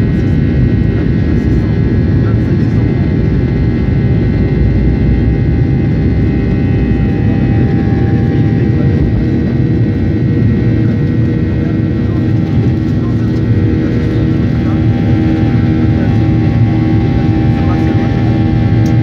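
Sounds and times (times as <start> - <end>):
jet engine rumble in cabin: 0.0 - 19.0
jet engine whine: 0.0 - 19.0.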